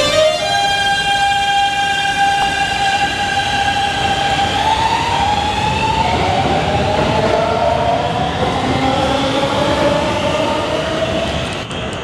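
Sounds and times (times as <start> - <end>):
train inverter whining upward tones: 0.0 - 12.0
wheels rumbling on rail: 0.0 - 12.0.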